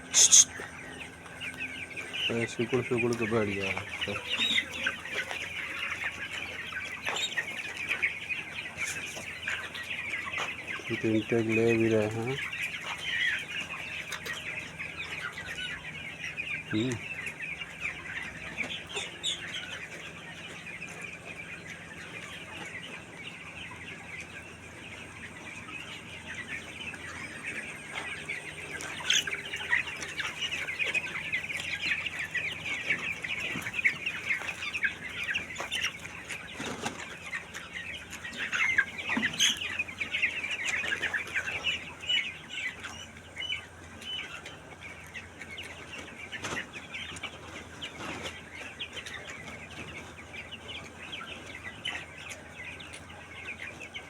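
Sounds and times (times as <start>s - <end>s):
chickens clucking and chirping: 0.0s - 54.0s.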